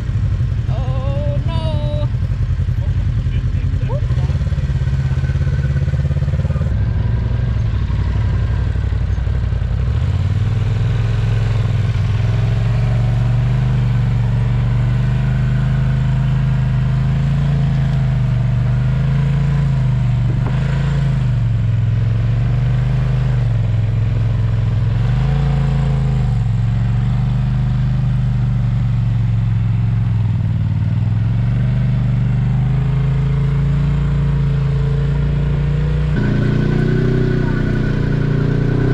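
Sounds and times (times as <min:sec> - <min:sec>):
off-road vehicle engines under load: 0:00.0 - 0:38.9.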